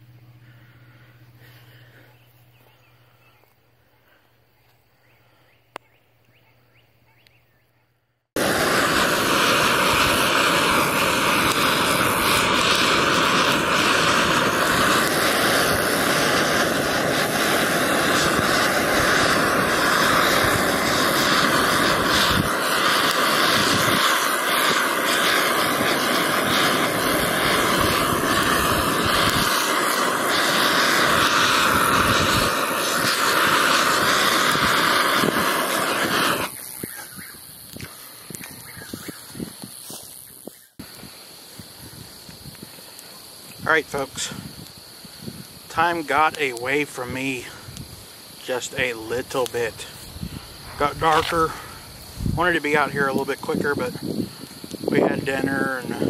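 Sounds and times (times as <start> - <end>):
gas torch flame roaring: 8.4 - 56.0.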